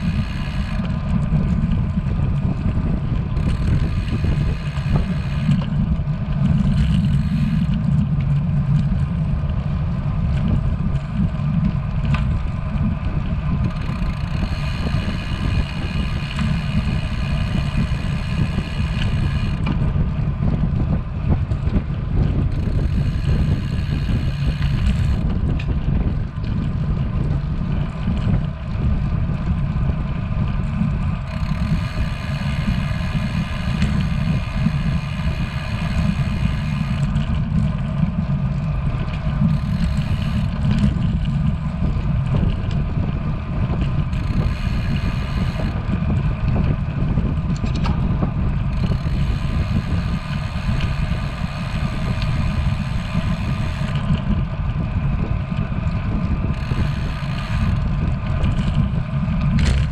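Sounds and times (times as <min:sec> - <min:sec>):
whirring buzz: 0:00.0 - 0:59.9
wind rumbling over microphone: 0:00.0 - 0:59.9.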